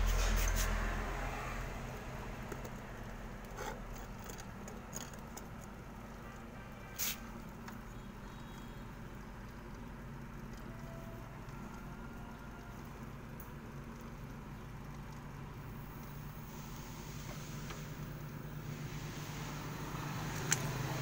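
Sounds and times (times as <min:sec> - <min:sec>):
refrigerator compressor hum: 0:00.0 - 0:21.0.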